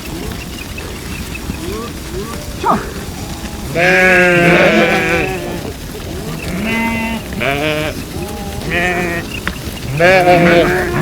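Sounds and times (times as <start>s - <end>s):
sheep bleating: 1.6s - 11.0s.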